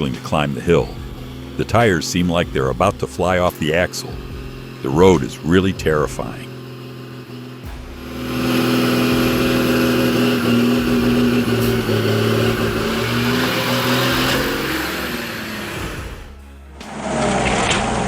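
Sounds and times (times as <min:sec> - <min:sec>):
truck engine drone under load: 0:00.0 - 0:18.0.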